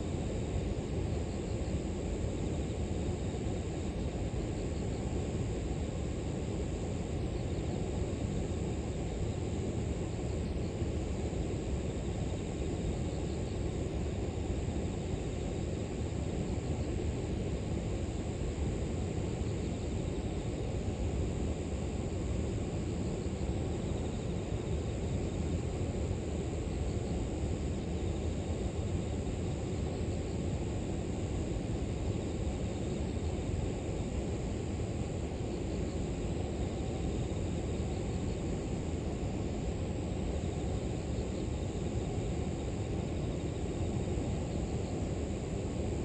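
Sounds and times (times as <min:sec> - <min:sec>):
insects chirping in grass: 0:00.0 - 0:46.0.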